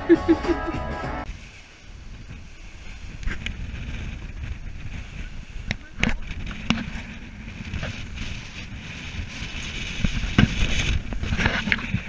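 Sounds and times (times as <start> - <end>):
water rushing along boat hull: 1.2 - 12.0
wind buffeting microphone: 1.2 - 12.0.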